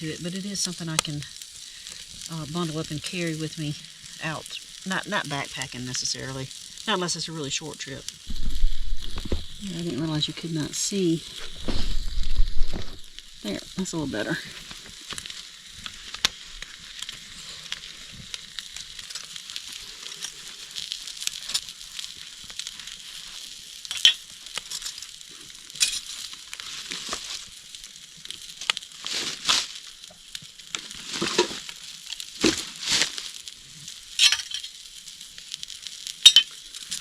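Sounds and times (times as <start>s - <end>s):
burger sizzling: 0.0s - 37.0s
fire crackling and popping: 0.0s - 37.0s.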